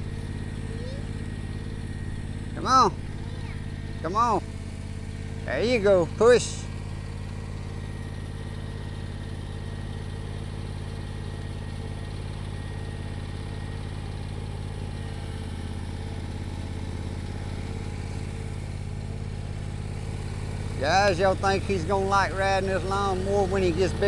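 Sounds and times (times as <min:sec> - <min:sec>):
lawnmower engine running: 0:00.0 - 0:24.0.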